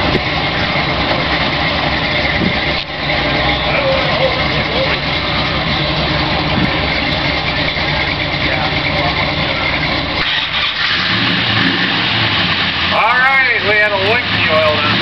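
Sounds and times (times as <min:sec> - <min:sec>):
loud engine idling: 0:00.0 - 0:15.0.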